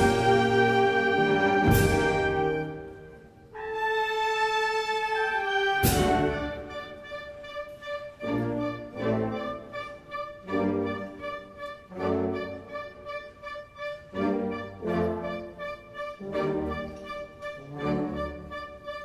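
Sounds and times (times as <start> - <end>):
brass band playing solemn march: 0.0 - 19.0.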